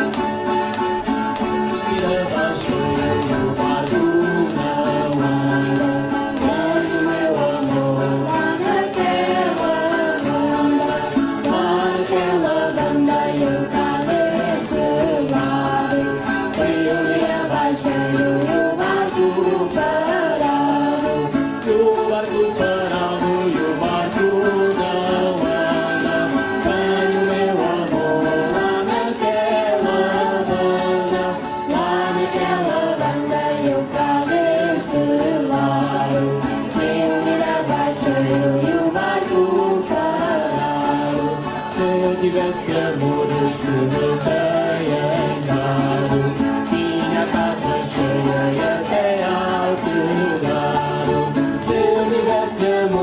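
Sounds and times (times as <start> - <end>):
background music with singing: 0.0 - 53.0.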